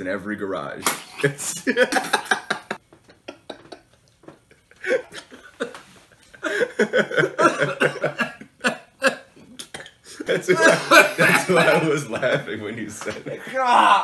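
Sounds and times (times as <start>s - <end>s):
men laughing hard: 1.4s - 9.5s, 10.1s - 14.0s.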